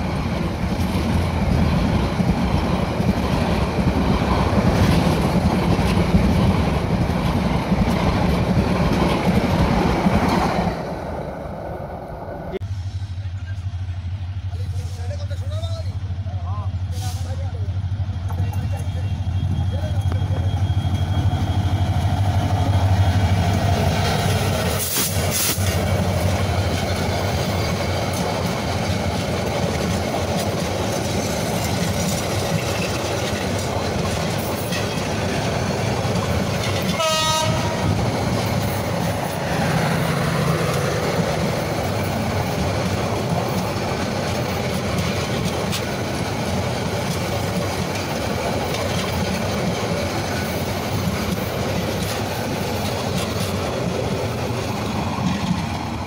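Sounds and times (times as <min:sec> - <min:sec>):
train wheels clattering on rails: 0:00.0 - 0:10.9, 0:18.2 - 0:56.0
diesel locomotive engine hum: 0:00.0 - 0:56.0.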